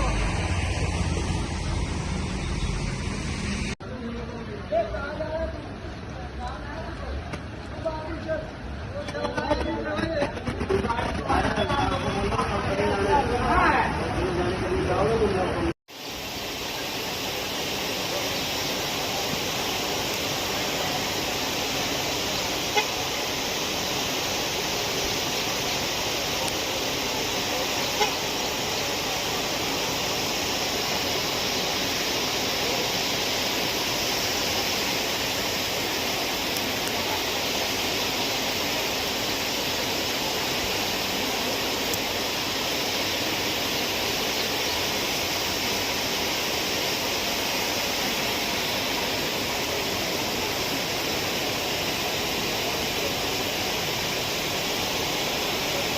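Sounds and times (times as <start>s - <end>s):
heavy rushing water: 0.0s - 55.9s.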